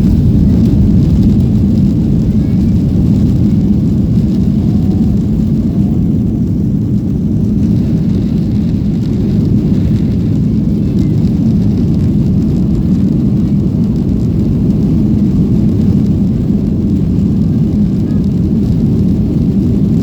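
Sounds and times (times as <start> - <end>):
jet engines roaring in cabin: 0.0 - 20.0.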